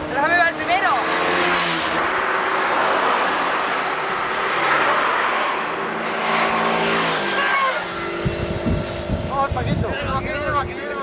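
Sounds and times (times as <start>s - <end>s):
low engine hum: 0.0s - 11.0s
motorcycles riding past: 0.0s - 11.0s.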